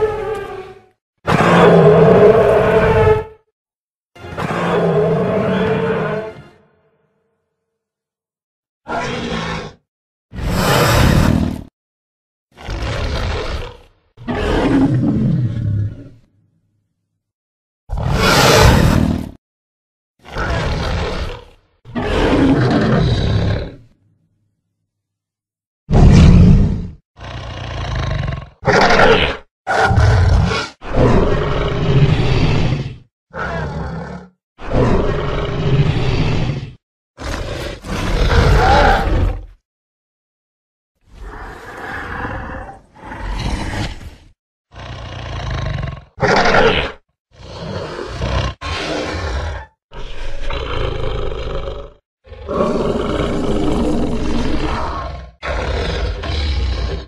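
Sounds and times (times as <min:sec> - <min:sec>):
dinosaur roars: 0:00.0 - 0:03.4, 0:04.4 - 0:06.6, 0:08.9 - 0:11.7, 0:12.6 - 0:16.3, 0:17.9 - 0:19.4, 0:20.2 - 0:24.0, 0:25.9 - 0:39.6, 0:41.0 - 0:57.0.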